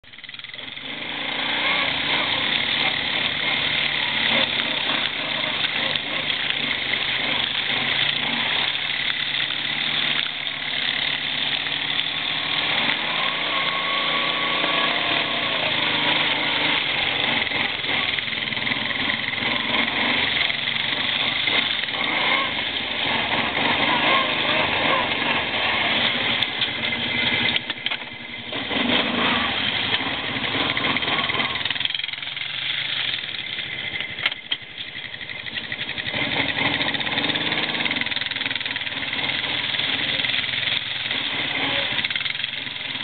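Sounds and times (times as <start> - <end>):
quad bike engines revving: 0.0 - 43.0.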